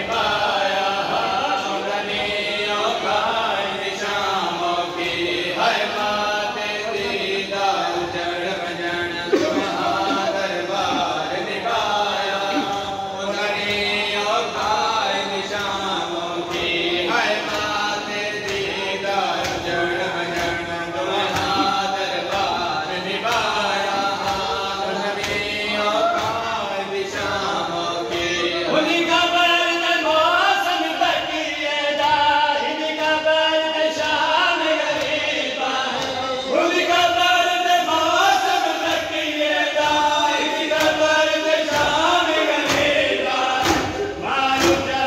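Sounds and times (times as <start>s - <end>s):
men chanting a sung lament: 0.0s - 45.0s
rhythmic chest-slapping: 0.0s - 45.0s.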